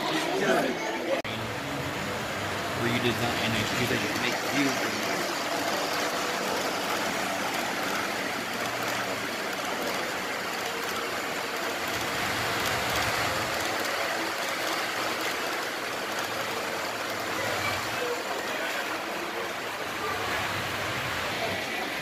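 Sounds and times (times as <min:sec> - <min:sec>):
busy room noise: 0:00.0 - 0:22.0
model trains rumbling on track: 0:01.3 - 0:22.0.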